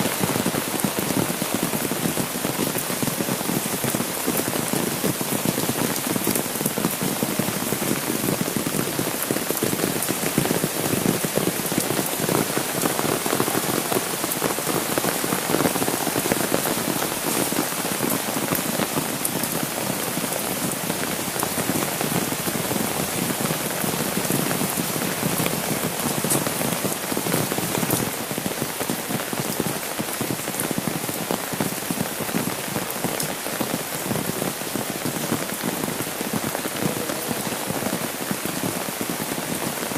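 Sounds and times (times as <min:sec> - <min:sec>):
rain on an umbrella: 0:00.0 - 0:39.9
rain on wet asphalt: 0:00.0 - 0:39.9.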